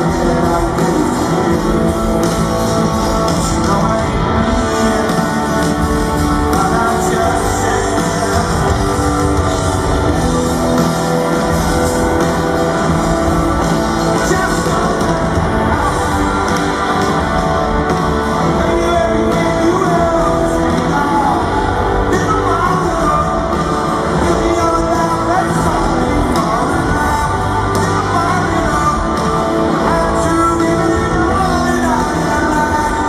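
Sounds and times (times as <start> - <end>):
bass guitar: 0.0 - 33.0
drums: 0.0 - 33.0
electric guitars: 0.0 - 33.0
lead vocal singing: 0.0 - 33.0.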